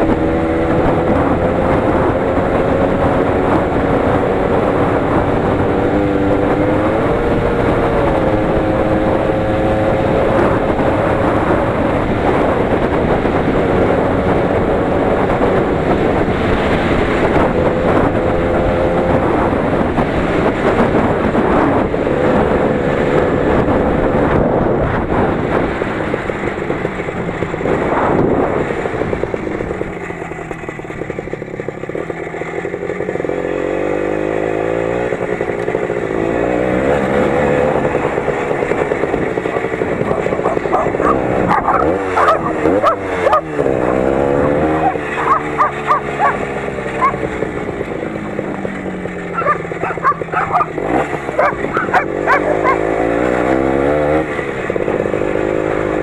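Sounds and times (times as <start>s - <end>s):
engine running under load: 0.0s - 56.0s.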